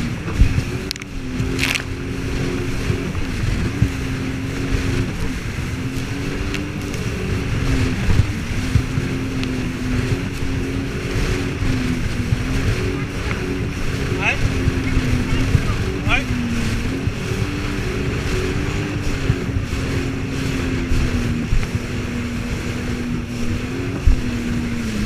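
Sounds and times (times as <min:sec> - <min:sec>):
jet ski engine running: 0:00.0 - 0:25.0.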